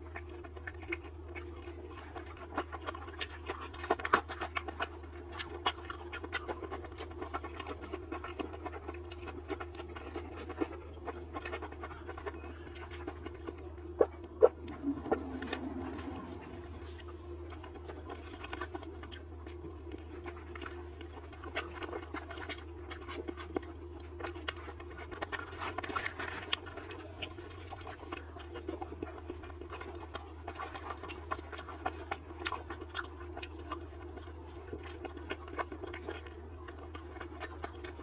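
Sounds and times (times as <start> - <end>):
chewing crunchy fried food: 0.0 - 38.0
steady low hum: 0.0 - 38.0.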